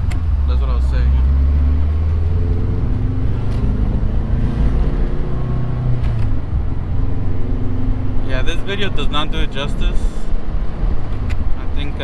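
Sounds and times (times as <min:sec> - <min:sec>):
car engine under throttle: 0:00.0 - 0:12.0.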